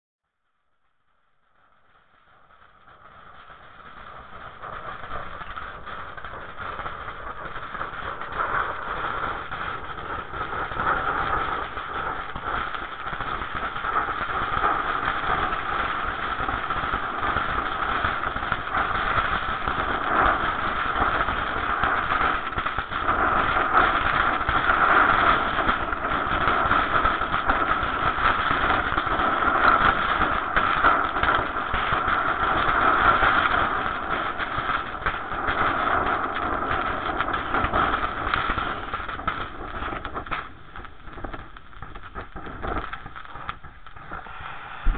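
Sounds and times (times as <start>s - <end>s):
firework fountain roaring and crackling: 0.4s - 44.9s.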